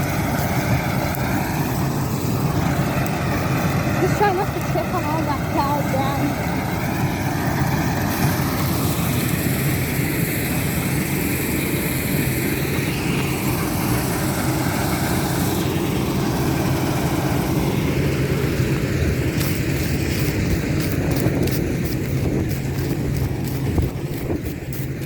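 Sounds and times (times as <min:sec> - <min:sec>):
harvester engine drone: 0:00.0 - 0:25.0
rushing hiss of threshing: 0:00.0 - 0:25.0.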